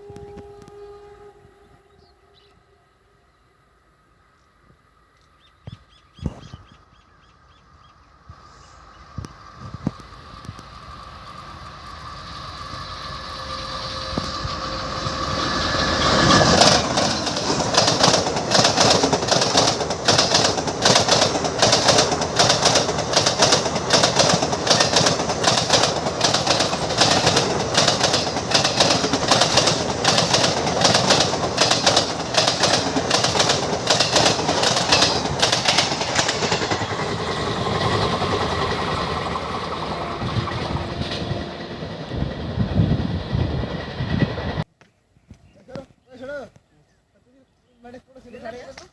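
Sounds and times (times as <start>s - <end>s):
train crossing iron bridge: 0.0s - 44.7s.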